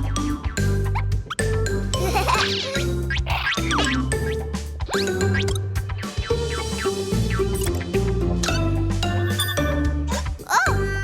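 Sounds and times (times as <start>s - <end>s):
upbeat cartoon music: 0.0s - 11.0s.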